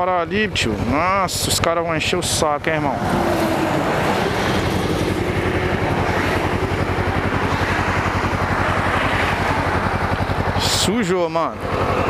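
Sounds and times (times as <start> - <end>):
highway traffic noise: 0.0 - 12.0
motorcycle engine idling: 0.0 - 12.0.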